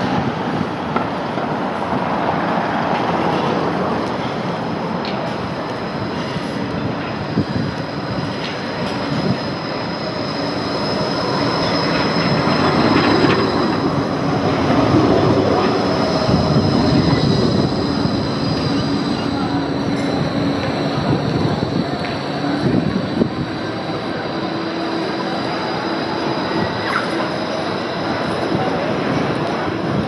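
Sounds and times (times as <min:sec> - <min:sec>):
tram passing on track: 0:00.0 - 0:30.0.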